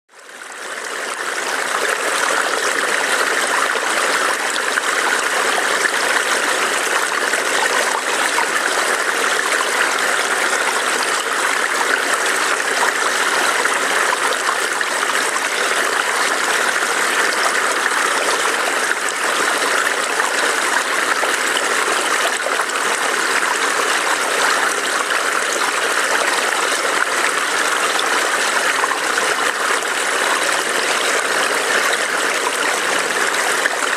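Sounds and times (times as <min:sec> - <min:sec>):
water flowing over rocks: 0:00.1 - 0:33.9.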